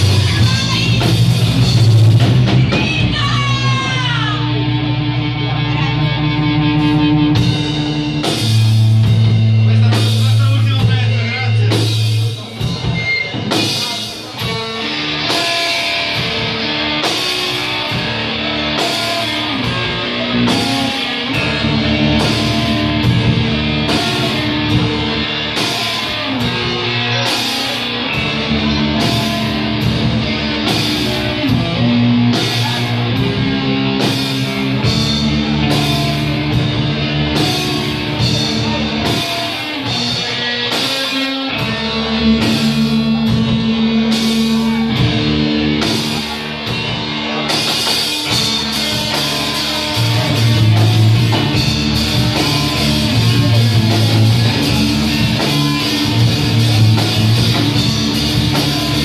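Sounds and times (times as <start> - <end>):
distorted electric guitar: 0.0 - 59.0
drum kit: 0.0 - 59.0.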